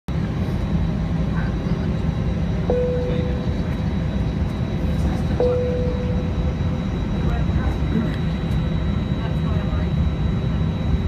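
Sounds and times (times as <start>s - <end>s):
jet engines running in cabin: 0.1s - 11.0s
steady hum: 0.1s - 11.0s.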